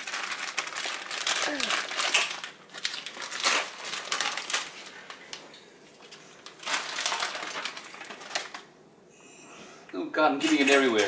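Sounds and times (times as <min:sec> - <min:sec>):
plastic packaging crinkling: 0:00.0 - 0:08.7, 0:10.4 - 0:11.0.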